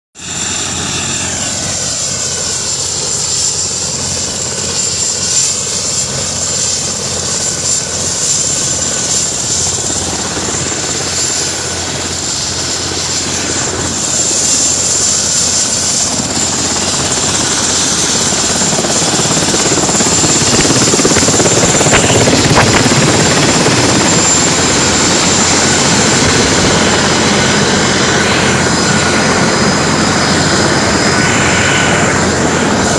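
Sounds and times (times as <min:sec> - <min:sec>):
helicopter running: 0:00.2 - 0:32.9.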